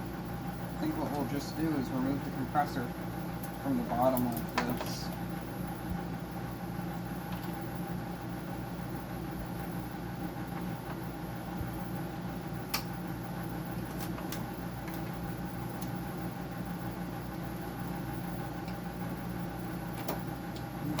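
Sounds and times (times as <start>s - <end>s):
electric machine hum: 0.0s - 21.0s.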